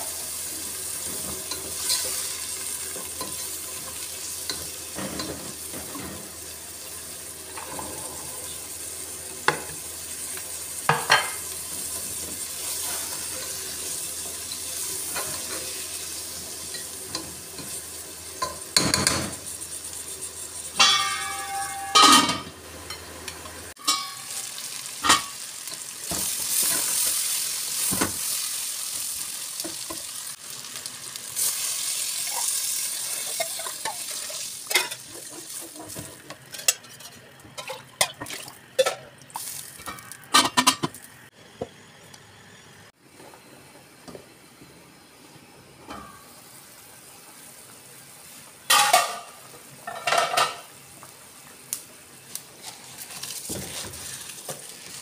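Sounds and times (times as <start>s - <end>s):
food sizzling in hot oil: 0.0s - 43.0s, 45.9s - 55.0s.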